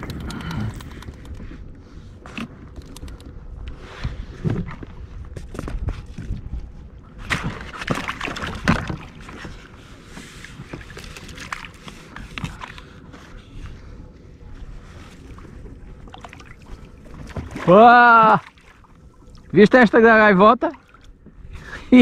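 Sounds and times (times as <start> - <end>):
water splashing and sloshing: 0.7 - 22.0.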